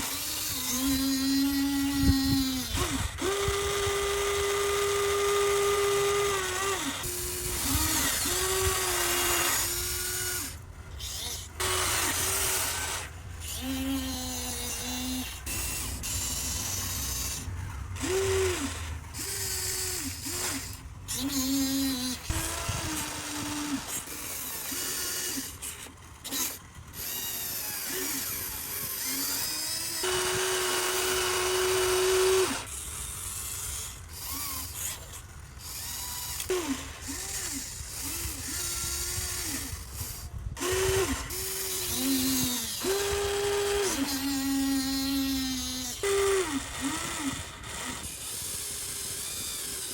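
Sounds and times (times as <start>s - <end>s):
small electric motors whining: 0.0s - 49.9s.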